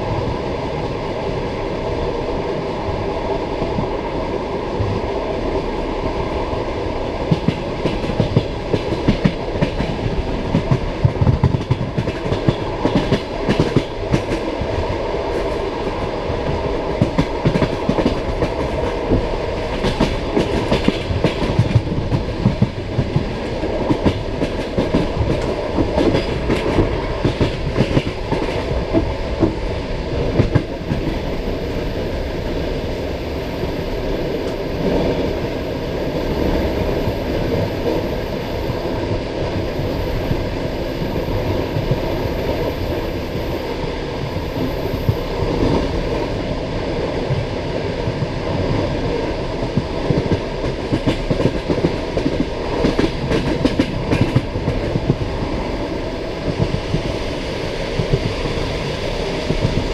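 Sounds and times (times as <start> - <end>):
train low rumble: 0.0 - 59.9.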